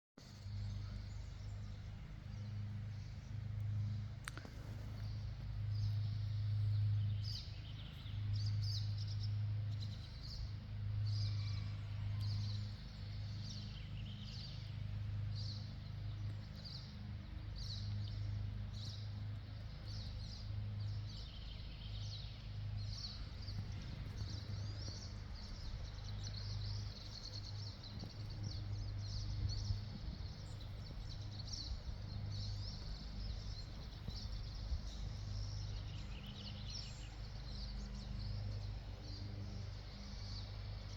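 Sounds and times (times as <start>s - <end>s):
low pulsing hum: 0.2s - 40.9s
small birds chirping: 0.2s - 40.9s.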